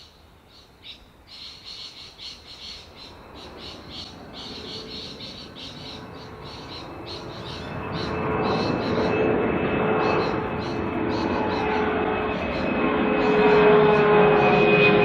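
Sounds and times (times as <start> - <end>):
small birds chirping: 0.0 - 9.3, 10.0 - 12.8
jet engine taking off: 2.8 - 15.0.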